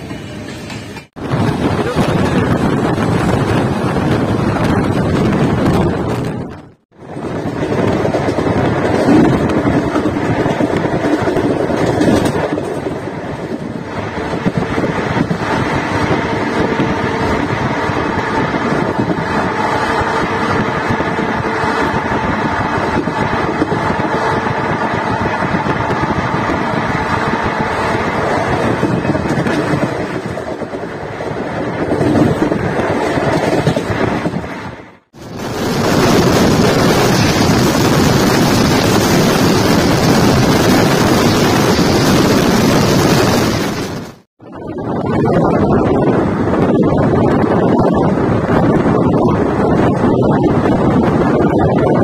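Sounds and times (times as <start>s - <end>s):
train wheels rumbling on rails: 0.0s - 52.0s
wind on microphone: 1.2s - 52.0s.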